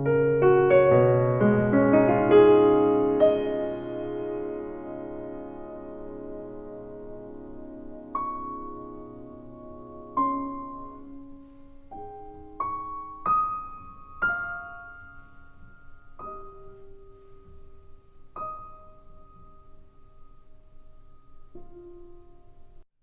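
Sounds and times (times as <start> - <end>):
slow gentle piano music: 0.0 - 22.9.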